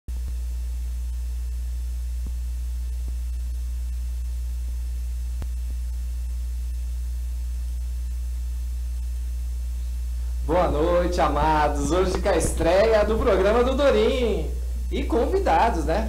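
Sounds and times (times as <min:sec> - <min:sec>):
low electrical hum: 0:00.1 - 0:16.0.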